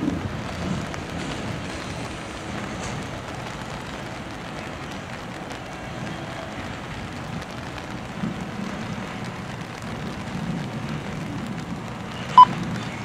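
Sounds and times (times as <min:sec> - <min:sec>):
distant train rumble: 0:00.0 - 0:13.0
steady rain falling: 0:00.0 - 0:13.0.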